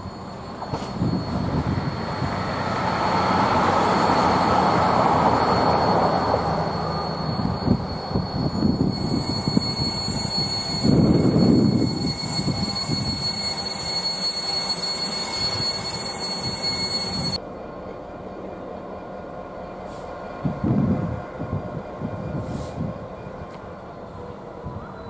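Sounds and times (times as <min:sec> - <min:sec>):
train rumble and rail noise: 0:00.0 - 0:25.0.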